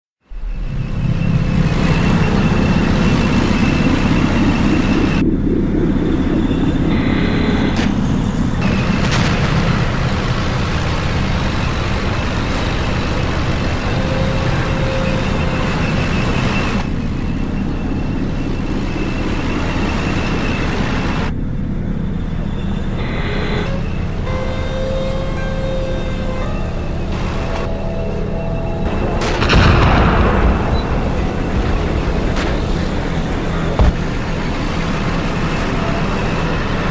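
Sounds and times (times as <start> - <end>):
tank engine rumbling: 0.2 - 36.9.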